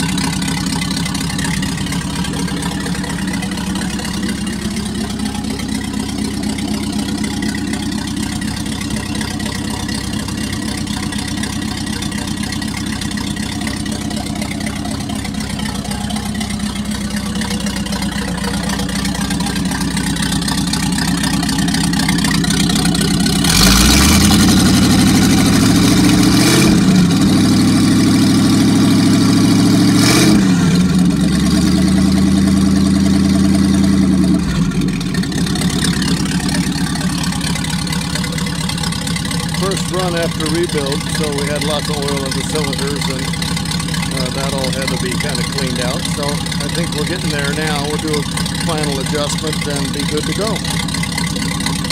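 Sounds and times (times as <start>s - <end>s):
boat engine idling and revving: 0.0s - 51.9s.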